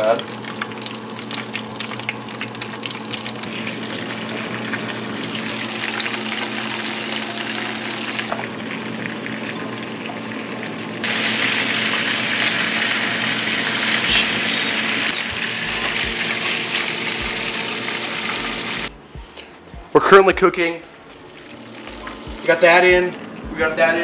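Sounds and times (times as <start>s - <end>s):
chicken wings deep-frying in oil: 0.0s - 18.9s, 21.2s - 24.0s.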